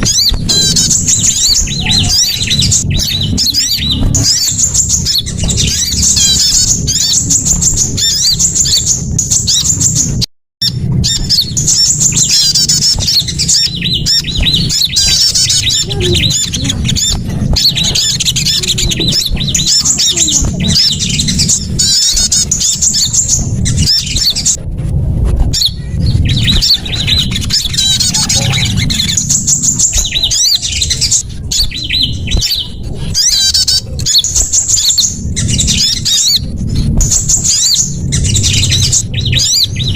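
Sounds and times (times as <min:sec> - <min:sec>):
songbirds chirping and trilling: 0:00.0 - 0:39.9
steady low rumble: 0:00.0 - 0:39.9.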